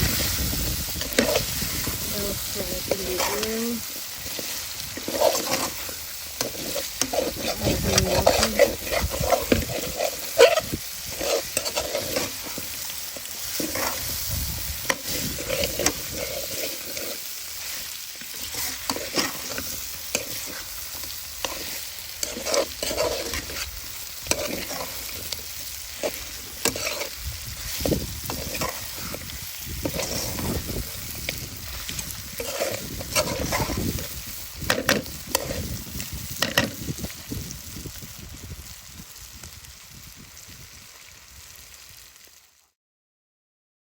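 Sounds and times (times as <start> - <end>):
meat sizzling in hot oil: 0.0 - 42.8
utensil scraping a pot: 0.8 - 36.8.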